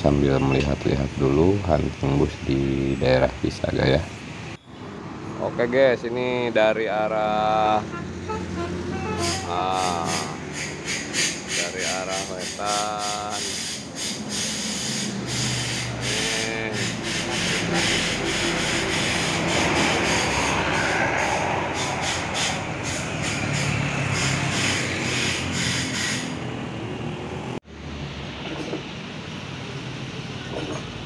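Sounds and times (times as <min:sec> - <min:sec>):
steady vehicle noise: 0:00.0 - 0:31.0
bus passing close by: 0:01.4 - 0:31.0.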